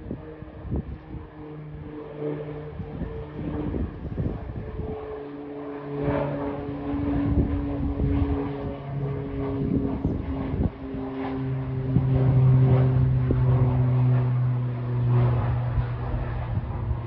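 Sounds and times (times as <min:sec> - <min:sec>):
airplane engines running: 0:00.0 - 0:17.0.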